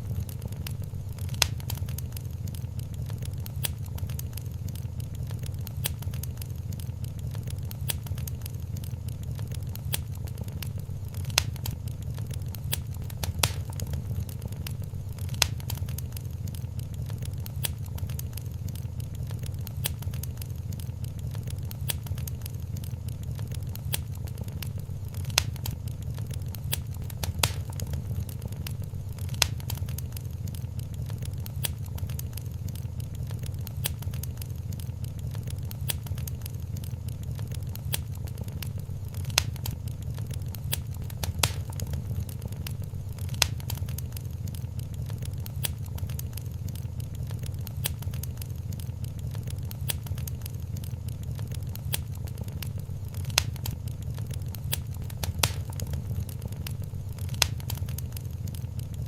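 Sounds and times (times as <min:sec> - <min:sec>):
low rumble of flames: 0:00.0 - 0:59.0
wood fire crackling: 0:00.0 - 0:59.0
sharp pops: 0:00.1 - 0:59.0.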